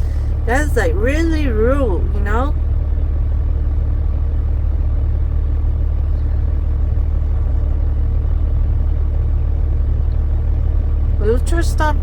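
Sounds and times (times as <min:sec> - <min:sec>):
truck rumbling: 0:00.0 - 0:12.0.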